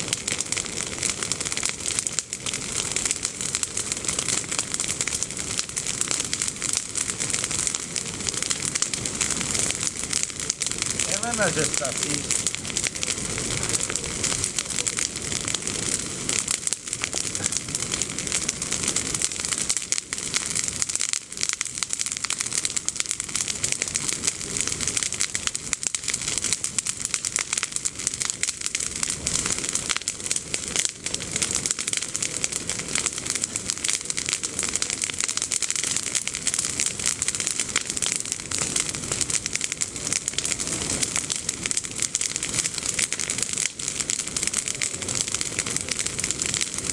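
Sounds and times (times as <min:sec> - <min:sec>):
bonfire crackling: 0:00.0 - 0:46.9.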